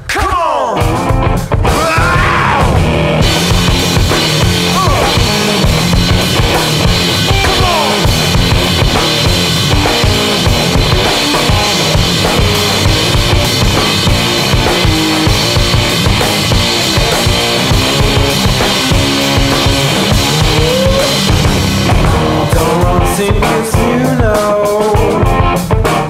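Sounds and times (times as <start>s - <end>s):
soundtrack music with drum kit: 0.0s - 26.0s
sliding notes: 2.6s - 26.0s.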